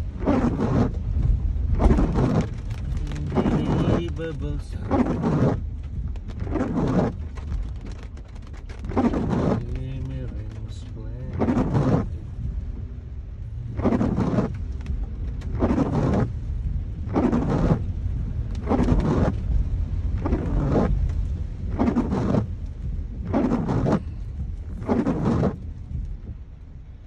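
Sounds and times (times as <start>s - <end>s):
low rumble: 0.0s - 27.0s
windshield wipers swishing: 0.0s - 27.0s.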